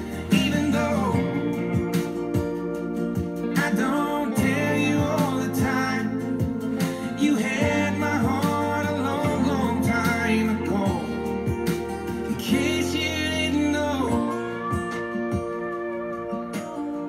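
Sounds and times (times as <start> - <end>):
country song over speakers: 0.0 - 17.0.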